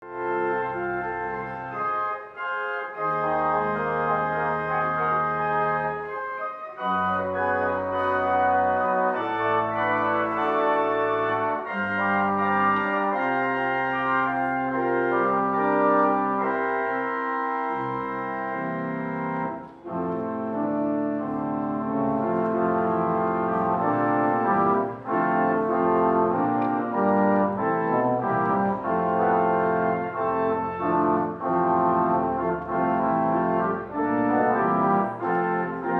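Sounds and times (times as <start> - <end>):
organ chords over bass line: 0.1 - 35.9.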